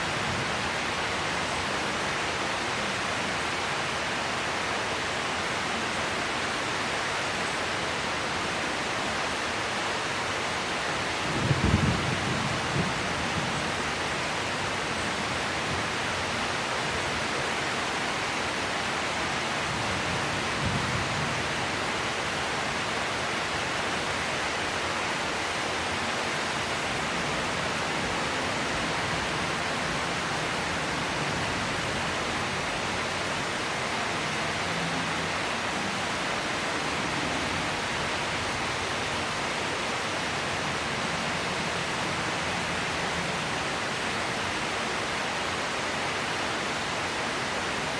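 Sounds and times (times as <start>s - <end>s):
steady rain pouring: 0.0s - 47.9s.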